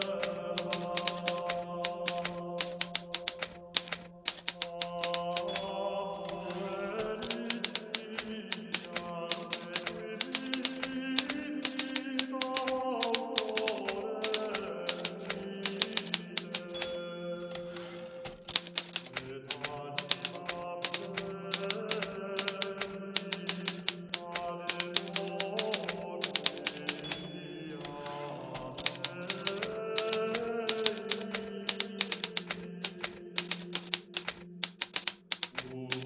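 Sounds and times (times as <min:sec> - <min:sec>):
typewriter keys clicking: 0:00.0 - 0:36.0.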